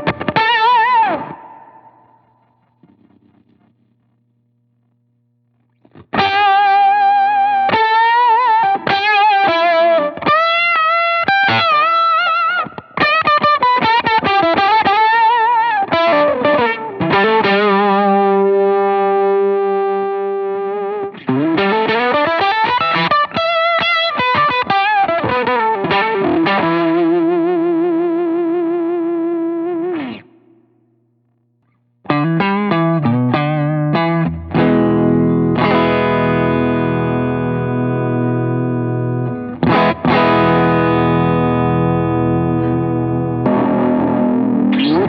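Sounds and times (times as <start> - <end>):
distorted electric guitar lead: 0.0 - 45.0.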